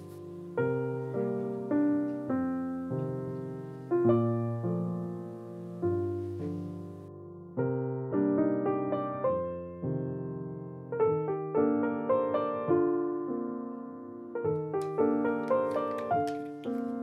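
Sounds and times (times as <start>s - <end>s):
soft solo piano chords: 0.0s - 17.0s.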